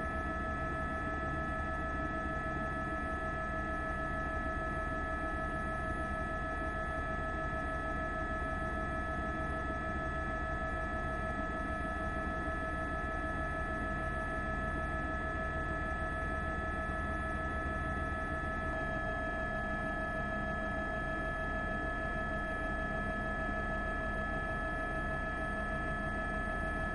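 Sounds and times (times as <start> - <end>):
helicopter turbine and rotor: 0.0 - 26.9.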